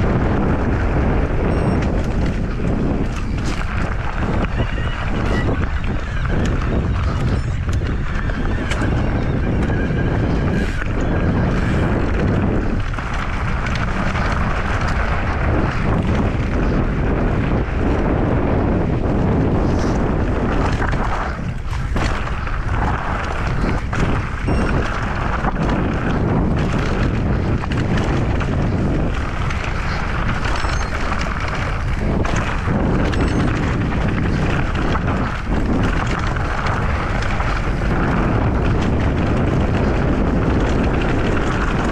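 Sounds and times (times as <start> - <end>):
bike rattling and knocking: 0.0 - 41.9
tyres crunching on stony dirt: 0.0 - 41.9
wind buffeting microphone: 0.0 - 41.9.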